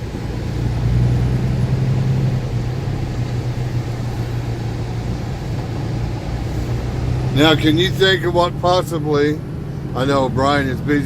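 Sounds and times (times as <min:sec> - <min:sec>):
diesel truck engine humming: 0:00.0 - 0:11.0
road noise: 0:00.0 - 0:11.0.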